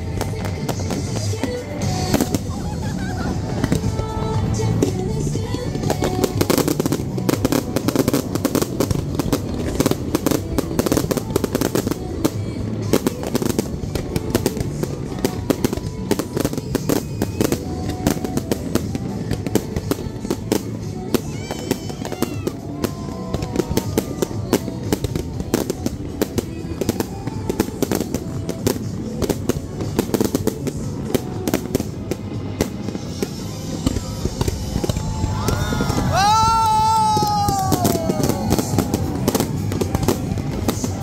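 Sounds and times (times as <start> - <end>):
fireworks bangs and crackles: 0.0 - 41.0
music playing: 0.0 - 41.0.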